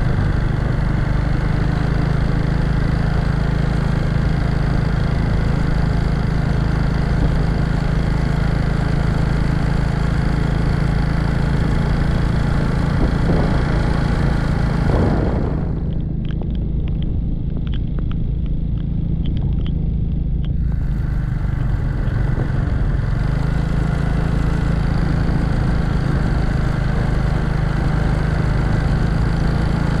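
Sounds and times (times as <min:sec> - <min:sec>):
vehicle engine droning: 0:00.0 - 0:30.0
wind and road noise: 0:00.0 - 0:30.0.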